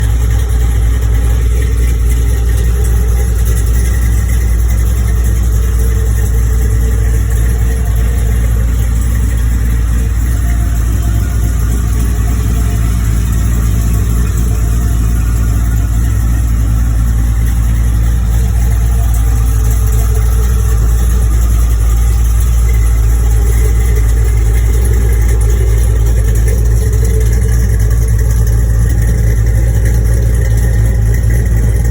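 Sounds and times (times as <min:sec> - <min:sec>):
truck engine idling: 0:00.0 - 0:31.9.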